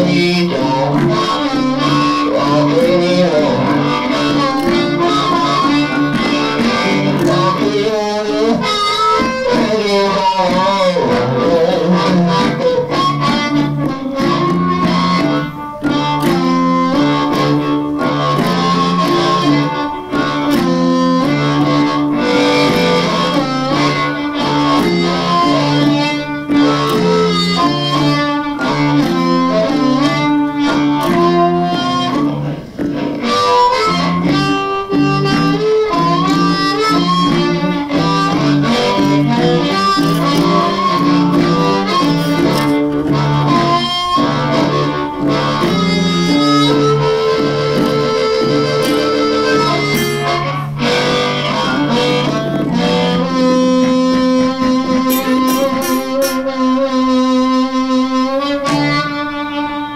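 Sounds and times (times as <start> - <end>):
bass line: 0.0 - 59.1
blues harmonica with bent notes: 0.0 - 59.9
drums: 0.0 - 59.9.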